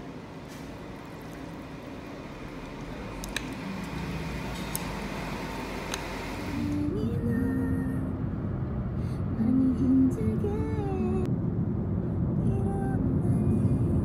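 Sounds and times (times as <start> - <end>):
steady rumble: 0.0 - 14.0.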